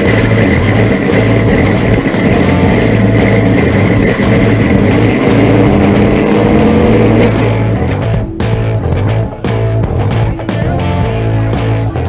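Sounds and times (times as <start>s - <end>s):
intro music with engine-like drone: 0.0s - 12.0s.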